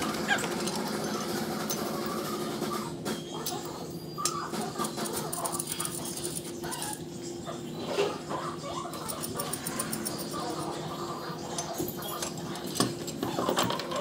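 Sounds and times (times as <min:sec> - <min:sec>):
workshop hum: 0:00.0 - 0:14.0.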